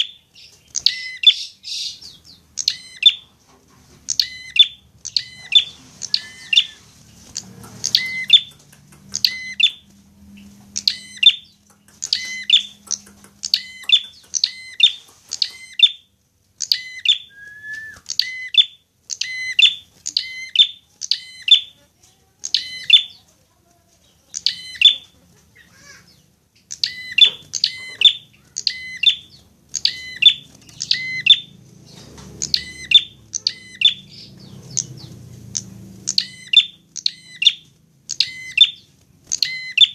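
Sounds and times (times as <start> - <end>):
bird chirping calls: 0.0 - 39.9.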